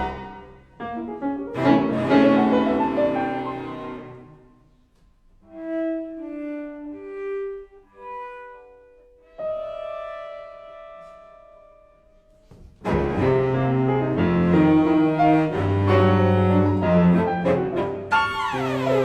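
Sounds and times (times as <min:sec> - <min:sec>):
cello and piano playing: 0:00.0 - 0:04.8, 0:05.4 - 0:19.0.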